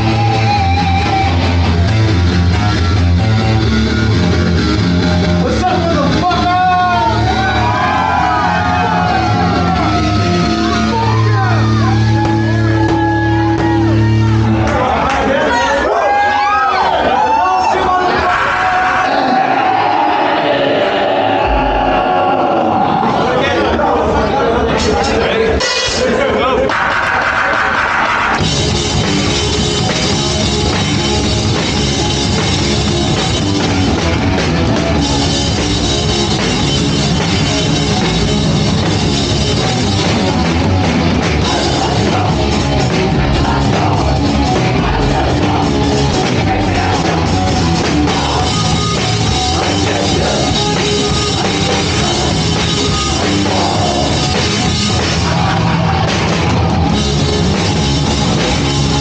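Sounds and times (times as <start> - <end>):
drums: 0.0 - 59.0
live punk band playing: 0.0 - 59.0.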